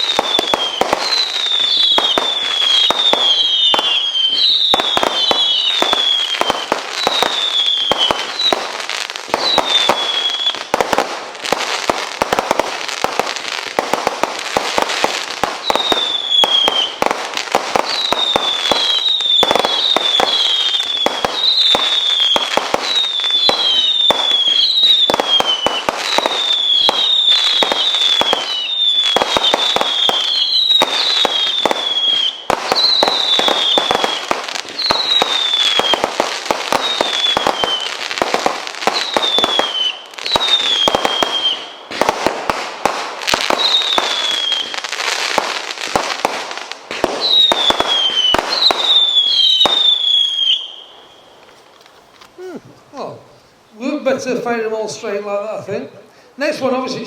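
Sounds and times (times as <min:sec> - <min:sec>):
firework falling whistles: 0:00.0 - 0:11.1, 0:12.2 - 0:52.4
firework shots and bangs: 0:00.0 - 0:50.6.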